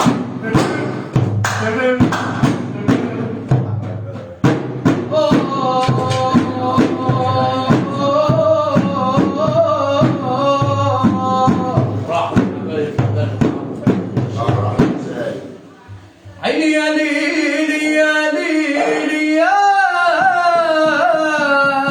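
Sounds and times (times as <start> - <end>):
steady drum beat: 0.0 - 16.4, 20.1 - 21.9.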